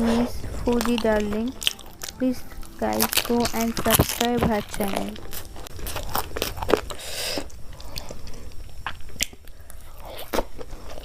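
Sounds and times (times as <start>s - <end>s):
person biting and chewing food: 0.0s - 11.0s.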